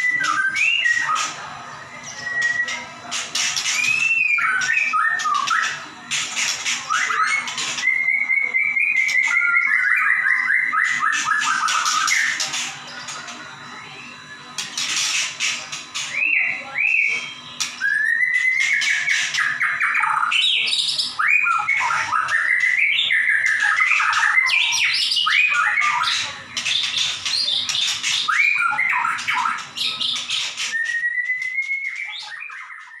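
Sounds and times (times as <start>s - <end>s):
songbird singing whistled trills: 0.0s - 2.8s, 3.4s - 5.8s, 6.7s - 13.2s, 16.0s - 33.0s.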